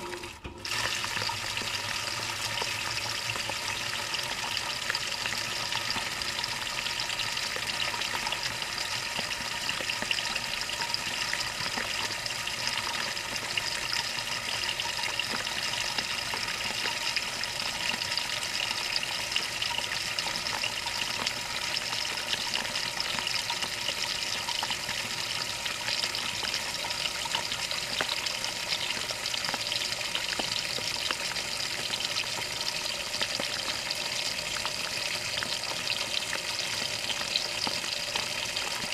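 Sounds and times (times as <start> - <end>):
water pouring into washing machine: 0.0 - 38.9.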